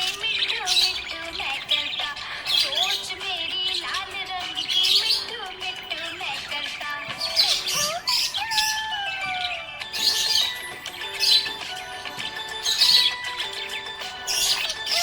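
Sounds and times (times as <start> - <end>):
budgerigars chirping and chattering: 0.0 - 15.0.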